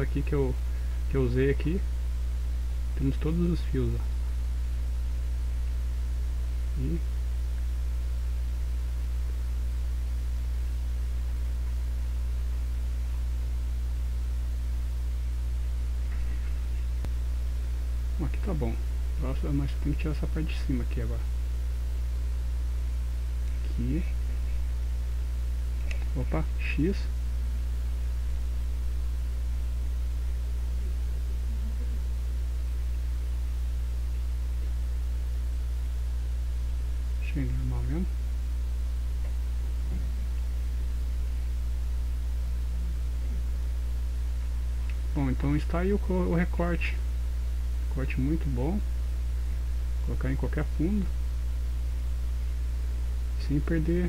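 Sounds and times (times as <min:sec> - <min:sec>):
low mains hum with hiss: 0:00.0 - 0:54.0.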